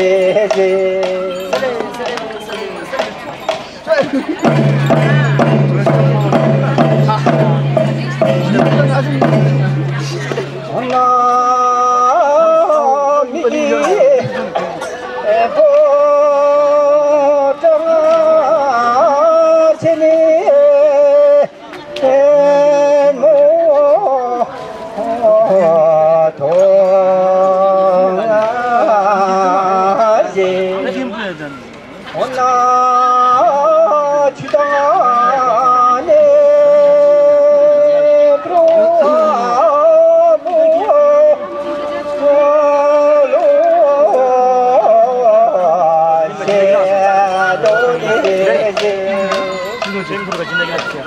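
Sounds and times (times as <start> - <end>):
person singing a chant: 0.0 - 2.8, 4.5 - 31.1, 32.2 - 51.0.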